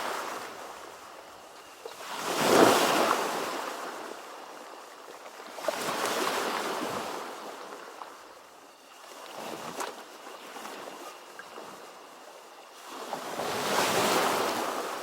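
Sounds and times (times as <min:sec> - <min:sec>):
ocean waves breaking on shore: 0:01.8 - 0:08.2, 0:09.0 - 0:15.0.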